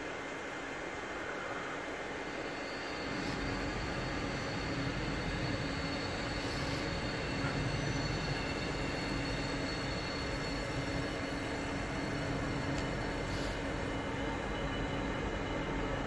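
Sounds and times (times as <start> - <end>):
faint high whine: 0.0 - 16.0
rumble and hum of trains: 0.0 - 16.0.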